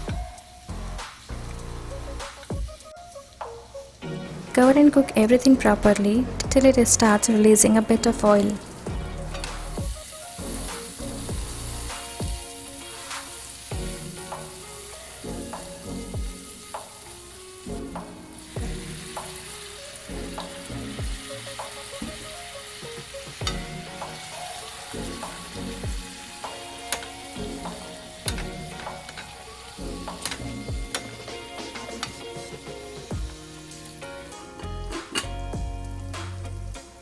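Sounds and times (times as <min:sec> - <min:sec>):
masala sizzling in a pan: 0:00.0 - 0:36.2
background music with regular beat: 0:00.0 - 0:37.0.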